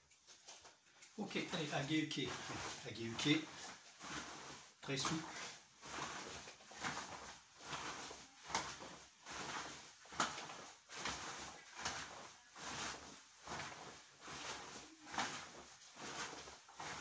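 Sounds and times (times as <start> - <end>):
cotton uniform swishing: 0.2 - 17.0.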